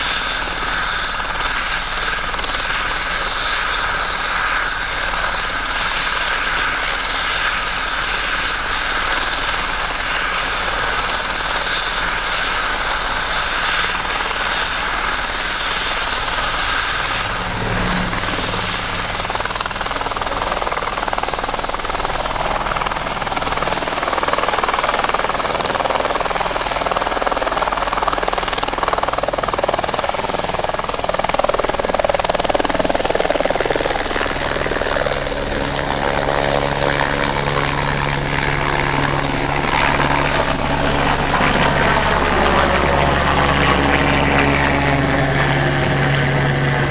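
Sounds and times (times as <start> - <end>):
helicopter rotor noise: 0.0 - 46.9
helicopter turbine whine: 0.0 - 46.9.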